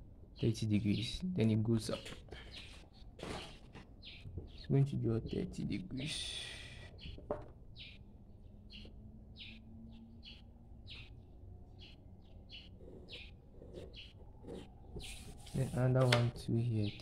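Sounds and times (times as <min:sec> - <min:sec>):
bird chirping: 0:00.3 - 0:17.0.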